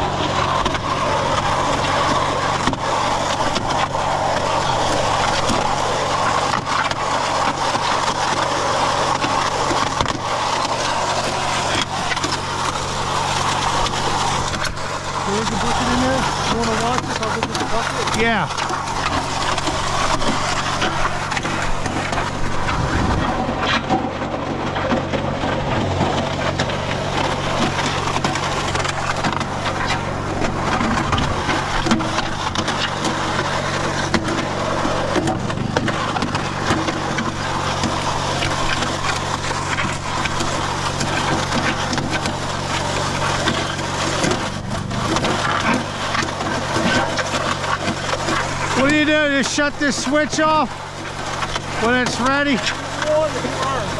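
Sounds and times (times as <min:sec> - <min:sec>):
concrete grinding and churning: 0:00.0 - 0:53.9
concrete mixer motor hum: 0:00.0 - 0:53.9.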